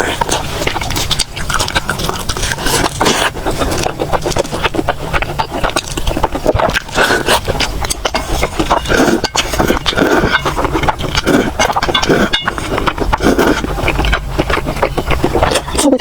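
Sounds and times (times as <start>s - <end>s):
chewing with wet smacks: 0.0s - 16.0s.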